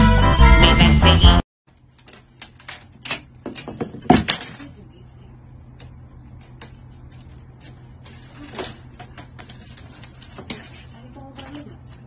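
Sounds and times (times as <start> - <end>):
low steady hum: 1.7 - 12.0.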